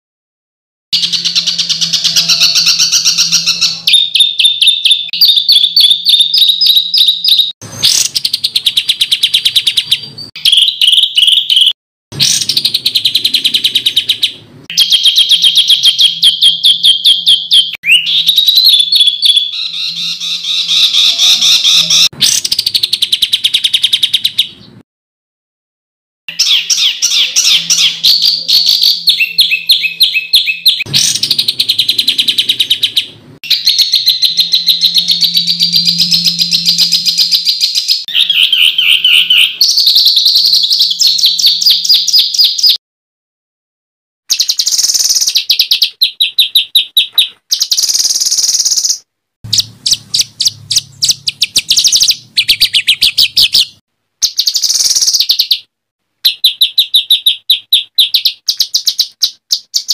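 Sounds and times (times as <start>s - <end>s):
songbird harsh notes and trills: 1.0s - 24.8s, 26.3s - 42.8s, 44.3s - 59.9s.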